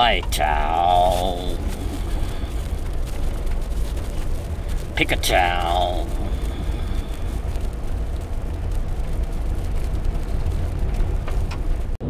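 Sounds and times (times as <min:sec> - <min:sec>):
car driving on dirt road: 0:00.0 - 0:12.0.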